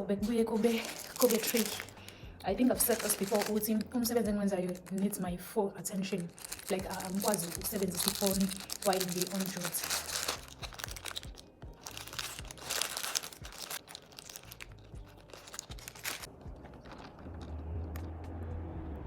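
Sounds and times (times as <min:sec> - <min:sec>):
food wrapping crinkling: 0:00.4 - 0:05.3, 0:05.9 - 0:17.5.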